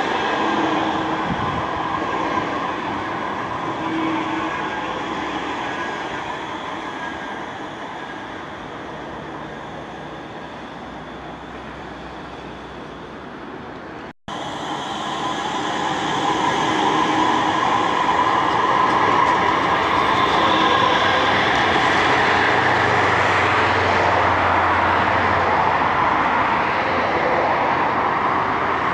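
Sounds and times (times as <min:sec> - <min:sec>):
tram passing close by: 0:00.0 - 0:28.9
tram running on track: 0:00.0 - 0:28.9.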